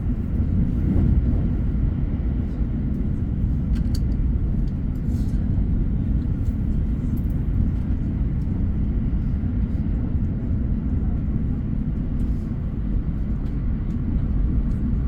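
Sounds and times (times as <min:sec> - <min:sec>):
train rumbling in motion: 0:00.0 - 0:15.0.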